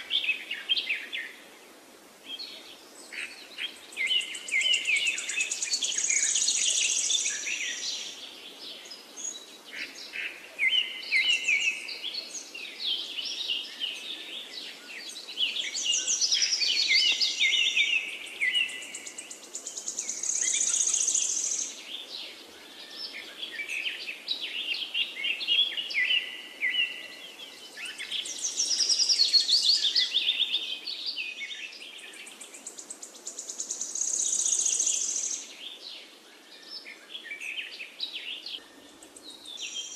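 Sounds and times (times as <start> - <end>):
birds chirping and singing: 2.3 - 39.9.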